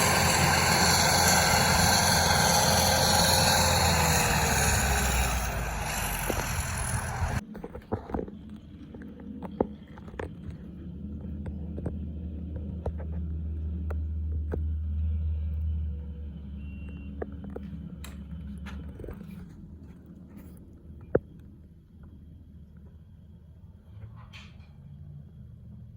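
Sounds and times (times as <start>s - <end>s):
heavy machinery engine rumble: 0.0s - 21.4s.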